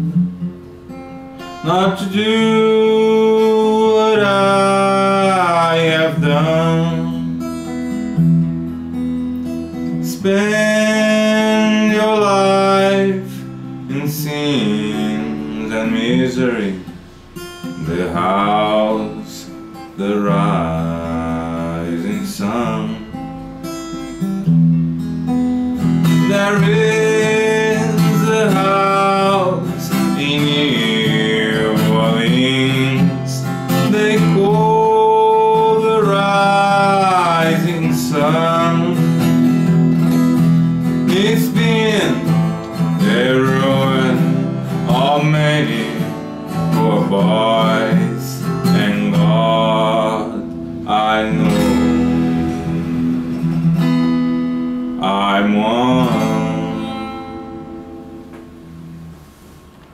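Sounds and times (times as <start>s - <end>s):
acoustic guitar strumming: 0.0s - 59.9s
man singing: 1.6s - 7.5s, 9.9s - 23.4s, 26.0s - 40.0s, 40.8s - 53.5s, 54.9s - 57.7s.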